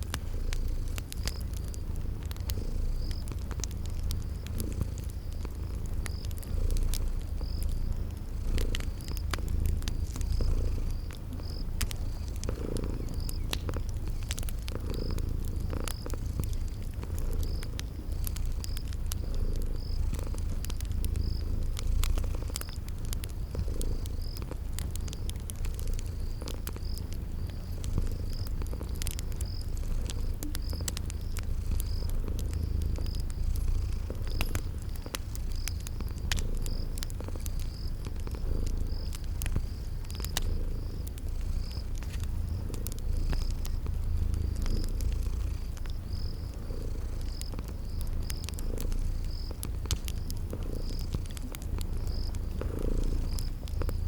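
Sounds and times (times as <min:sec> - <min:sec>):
cat purring: 0:00.0 - 0:54.0
cricket chirping: 0:00.0 - 0:54.0
wood fire crackling: 0:00.0 - 0:54.0.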